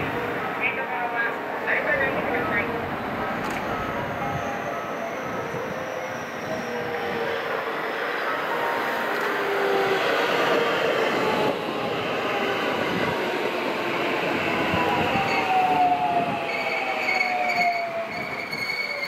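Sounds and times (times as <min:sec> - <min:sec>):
whining tones sliding down: 0:02.2 - 0:12.8, 0:14.3 - 0:19.0.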